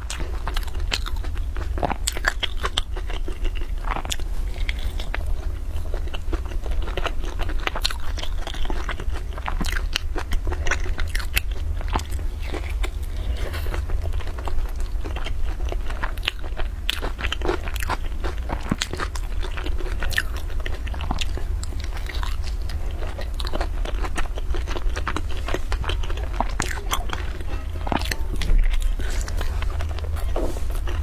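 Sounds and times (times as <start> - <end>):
crunching and chewing flatbread: 0.0 - 31.0
low hum: 0.0 - 31.0.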